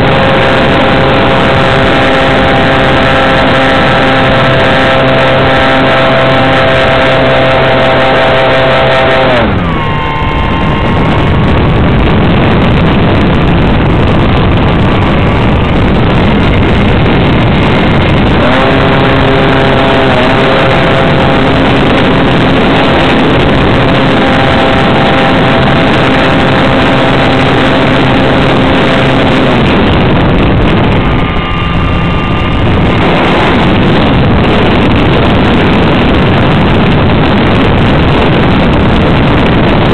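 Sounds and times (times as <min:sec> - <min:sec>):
model plane engine and propeller: 0:00.0 - 0:39.9
wind rush over microphone: 0:00.0 - 0:39.9.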